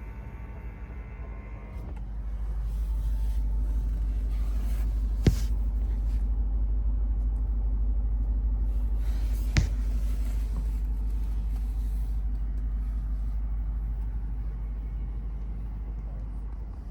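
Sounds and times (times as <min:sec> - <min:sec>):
car engine rumble: 0:01.8 - 0:16.9.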